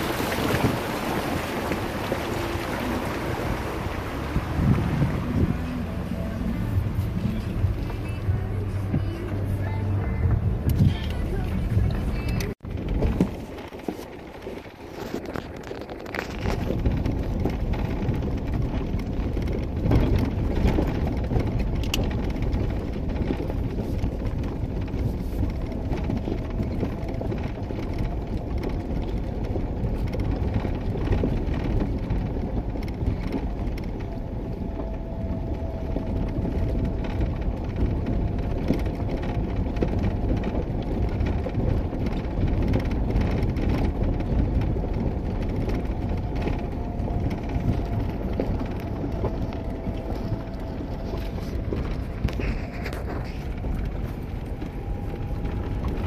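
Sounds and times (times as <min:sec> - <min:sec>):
car engine running: 0:00.0 - 0:56.0
tyre and road noise: 0:00.0 - 0:56.0.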